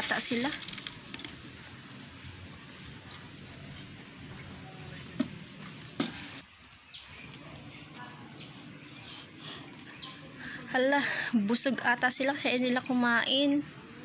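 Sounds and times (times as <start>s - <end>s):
water trickling into pond: 0.0s - 14.0s.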